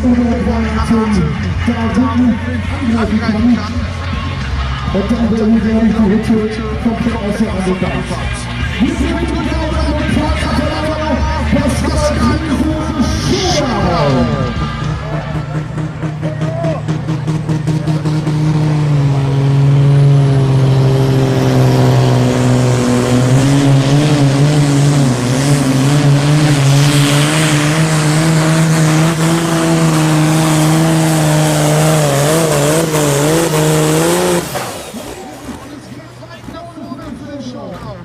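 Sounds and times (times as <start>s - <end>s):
tractor engine running flat out: 0.0s - 38.0s.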